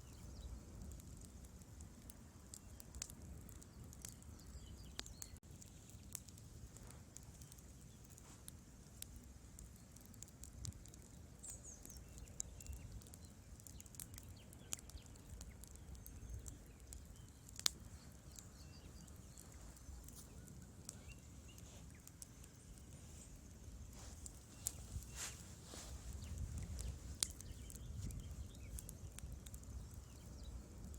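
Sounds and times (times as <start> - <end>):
fire crackling and popping: 0.0 - 30.9.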